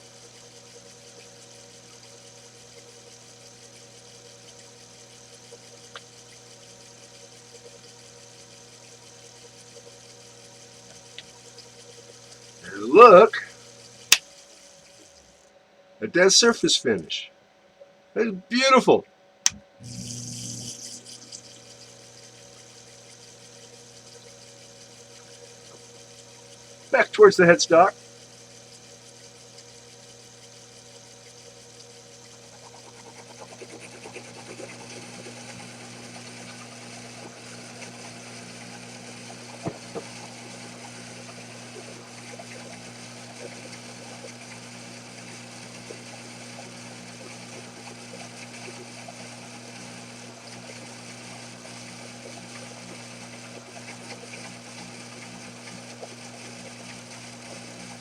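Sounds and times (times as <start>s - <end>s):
lathe motor hum: 0.0s - 15.5s, 19.8s - 58.0s.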